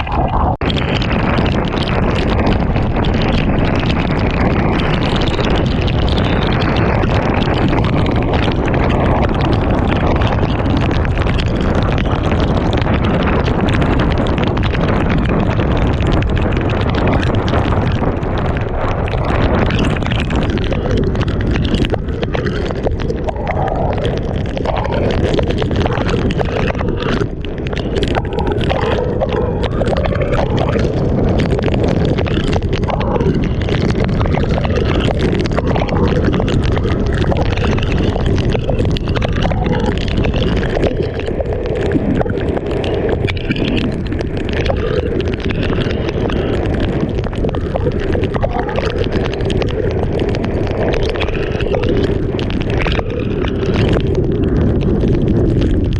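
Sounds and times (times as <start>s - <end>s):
rushing water: 0.0s - 55.9s
strong wind buffeting microphone: 0.0s - 55.9s.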